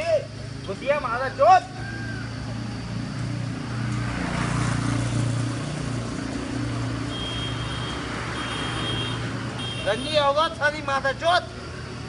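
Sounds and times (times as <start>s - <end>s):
engine humming: 0.0s - 12.0s
outdoor background noise: 0.0s - 12.0s.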